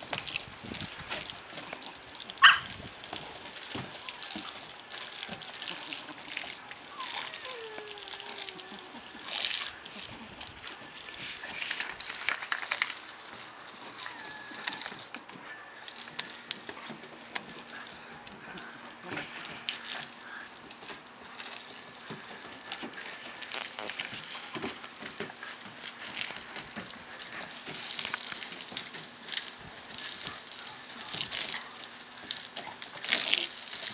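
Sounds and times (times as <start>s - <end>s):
sprinkler spray hissing: 0.0s - 33.9s.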